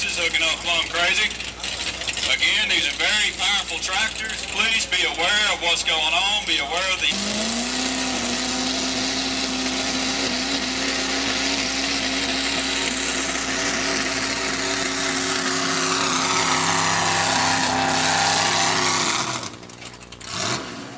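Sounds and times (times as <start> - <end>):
tractor engine running hard: 0.0 - 20.9.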